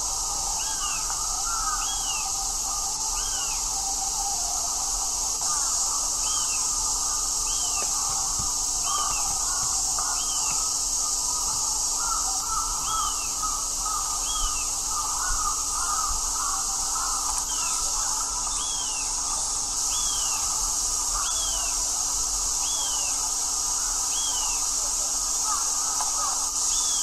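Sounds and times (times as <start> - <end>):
steady high hiss: 0.0 - 27.0
crows cawing: 0.2 - 27.0.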